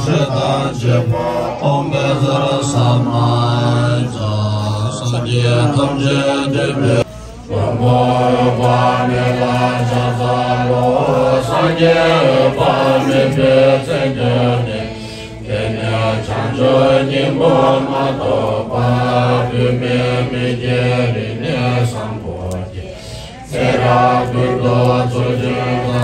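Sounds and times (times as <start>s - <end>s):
men chanting prayers: 0.0s - 26.0s.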